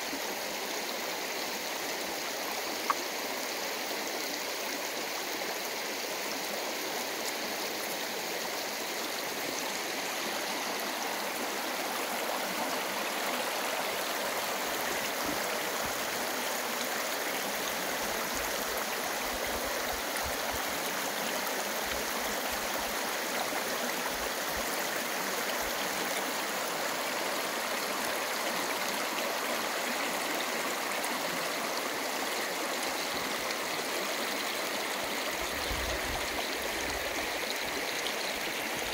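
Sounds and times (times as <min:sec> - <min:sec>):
river rippling over rocks: 0:00.1 - 0:38.9.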